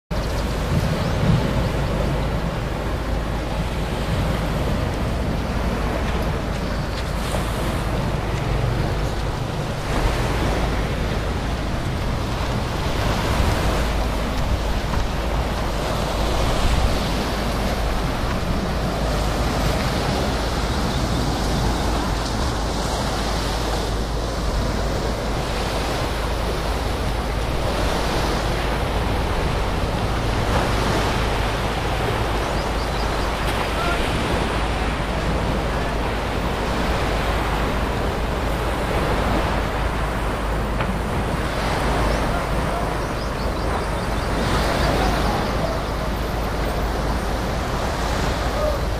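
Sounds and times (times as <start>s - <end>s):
wind rumbling on microphone: 0.1s - 48.9s
waves washing against rocks: 0.2s - 48.9s.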